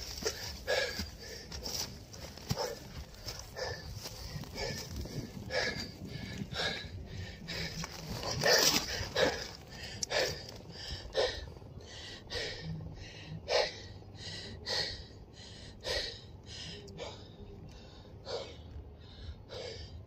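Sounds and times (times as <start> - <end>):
man panting hard: 0.0 - 20.0.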